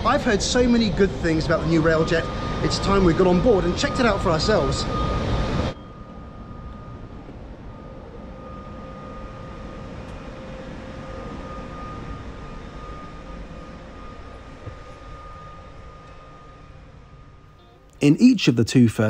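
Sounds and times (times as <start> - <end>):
electric train hum and rumble: 0.0 - 19.0
faint high whine: 0.0 - 19.0.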